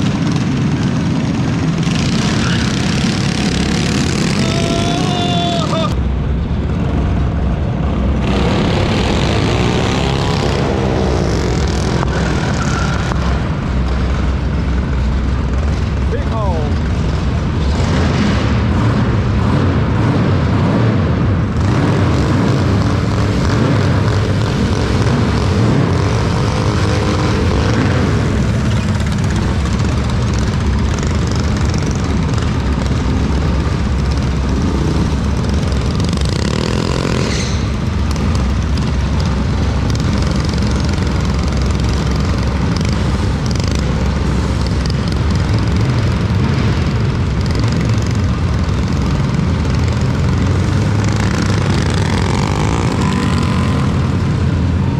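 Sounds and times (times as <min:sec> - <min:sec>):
minibike engines revving: 0:00.0 - 0:06.0, 0:08.0 - 0:54.9.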